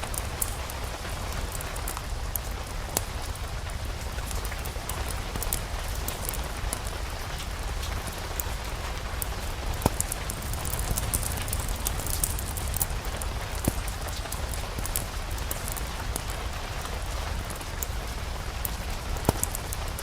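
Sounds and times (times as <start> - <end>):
small crackles and ticks: 0.0 - 20.0
steady rain: 0.0 - 20.0.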